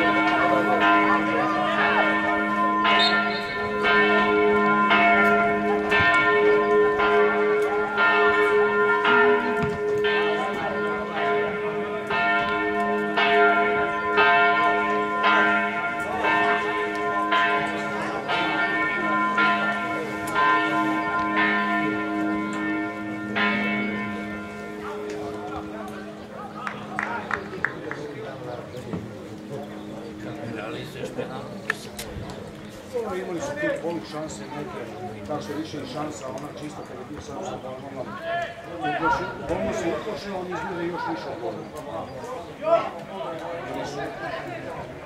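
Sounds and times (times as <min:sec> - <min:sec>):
church bells ringing: 0:00.0 - 0:42.6.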